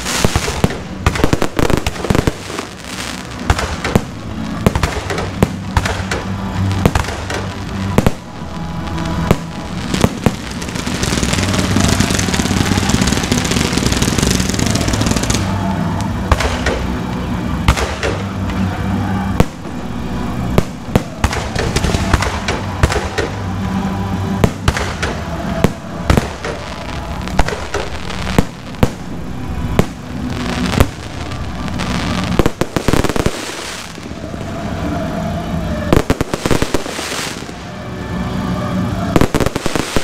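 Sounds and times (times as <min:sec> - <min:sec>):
fireworks bursting with bangs: 0:00.0 - 0:40.0
fireworks crackling hiss: 0:00.0 - 0:40.0.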